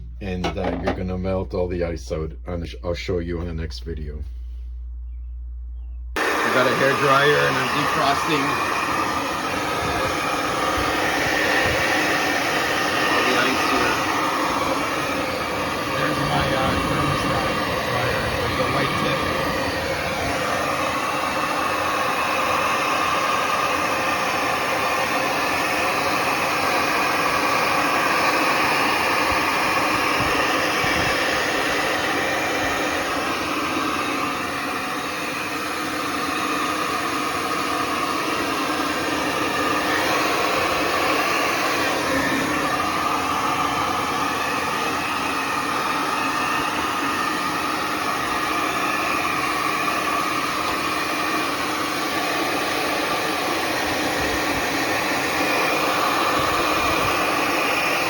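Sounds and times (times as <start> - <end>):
hair dryer running: 0.0 - 1.0, 6.2 - 58.0.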